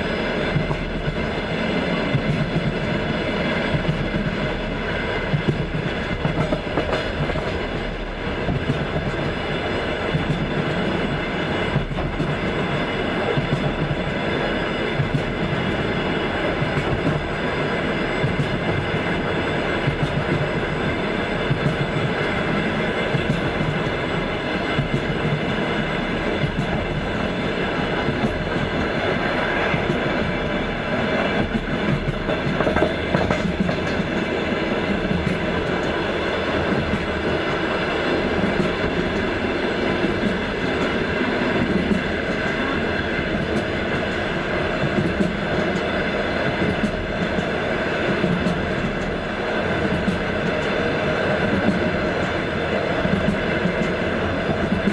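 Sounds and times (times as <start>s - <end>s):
train carriages rumbling: 0.0s - 54.9s.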